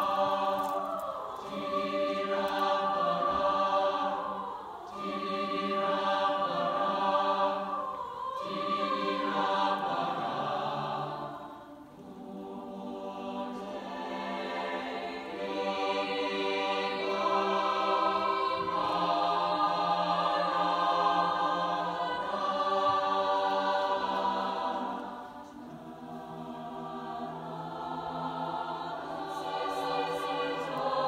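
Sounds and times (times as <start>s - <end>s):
choir singing held chords: 0.0s - 31.0s.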